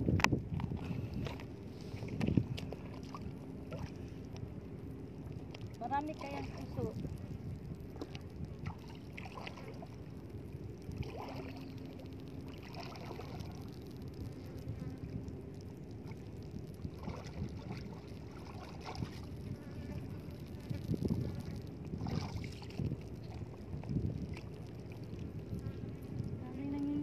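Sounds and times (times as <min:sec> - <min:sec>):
seawater lapping around rocks: 0:00.0 - 0:27.0
wind rumbling on microphone: 0:00.0 - 0:27.0.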